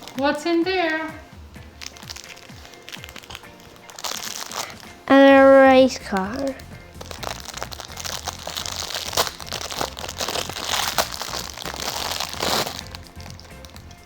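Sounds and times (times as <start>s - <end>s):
packaging crinkling: 0.0s - 0.3s, 1.6s - 5.0s, 5.9s - 14.0s.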